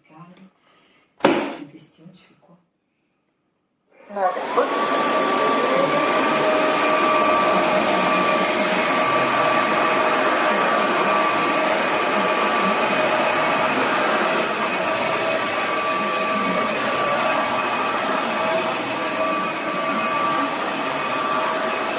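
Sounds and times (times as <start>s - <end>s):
vacuum motor whining: 4.2s - 21.9s.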